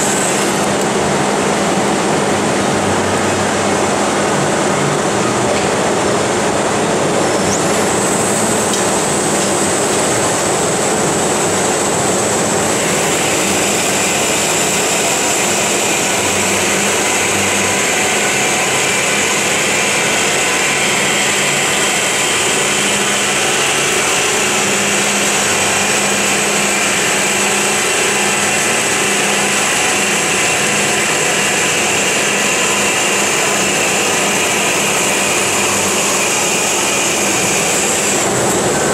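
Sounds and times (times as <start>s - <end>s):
band saw cutting metal: 0.0s - 4.9s, 7.0s - 38.9s.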